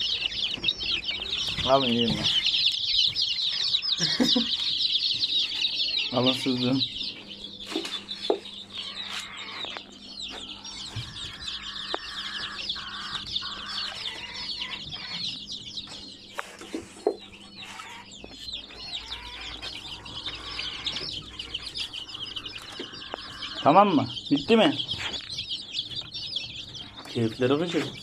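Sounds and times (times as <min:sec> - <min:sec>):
baby chicks peeping: 0:00.0 - 0:28.0.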